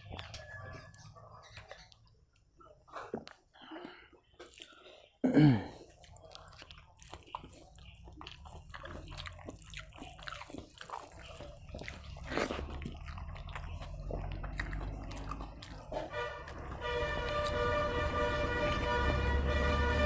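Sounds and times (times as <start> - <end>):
chewing and wet mouth sounds: 0.0 - 19.1.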